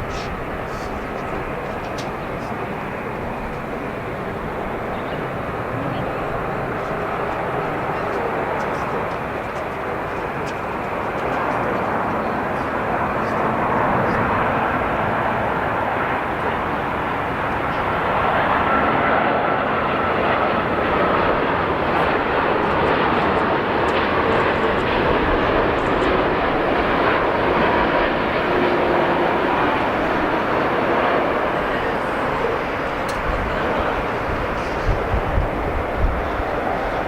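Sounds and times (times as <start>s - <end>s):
jet engines rushing with whine: 0.0s - 37.0s.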